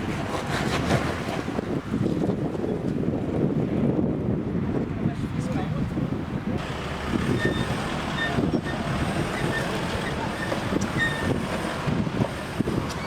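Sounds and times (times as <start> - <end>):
off-road vehicle over rough ground: 0.0 - 13.0
wind buffeting microphone: 0.0 - 13.0.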